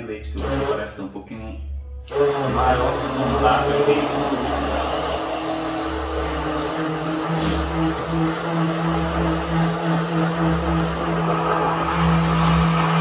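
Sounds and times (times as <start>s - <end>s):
stick blender running: 0.4s - 0.8s, 2.1s - 13.0s.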